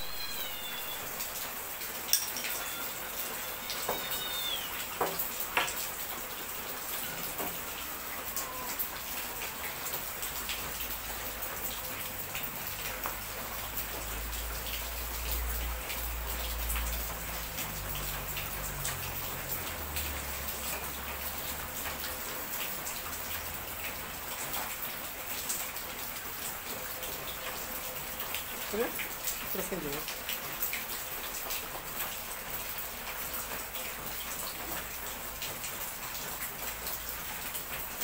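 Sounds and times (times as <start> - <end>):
rain pattering: 0.0 - 38.0.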